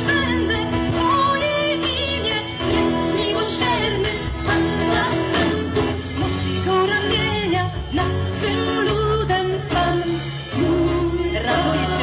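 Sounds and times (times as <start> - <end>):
live band playing: 0.0 - 12.0
people singing: 0.0 - 12.0.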